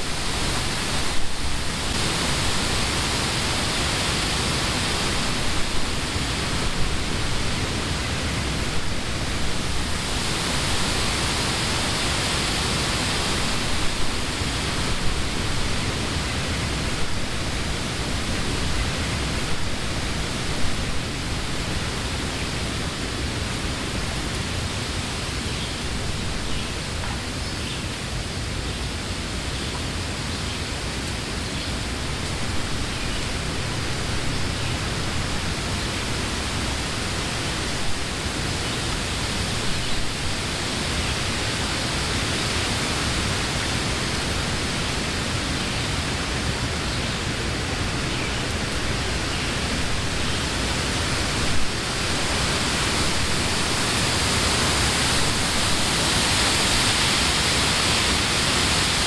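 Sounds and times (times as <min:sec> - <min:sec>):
wind through trees: 0:00.0 - 0:59.0.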